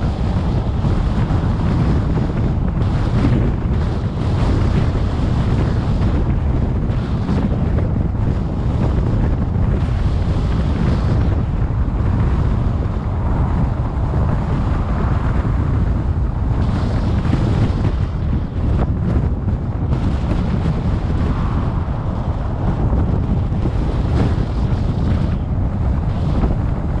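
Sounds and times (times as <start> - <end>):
road noise rumble: 0.0 - 27.0
wind buffeting microphone: 0.0 - 27.0.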